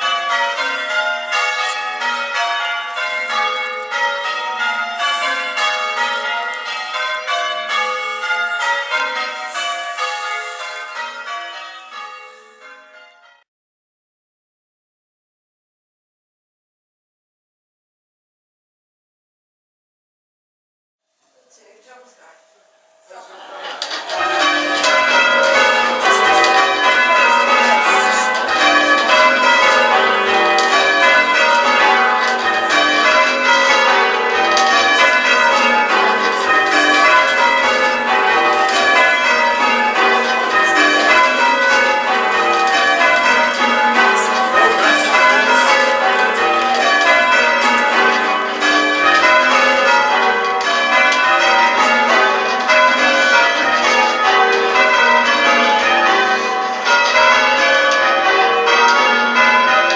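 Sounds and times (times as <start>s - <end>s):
church bells change-ringing: 0.0s - 13.5s, 21.3s - 59.9s.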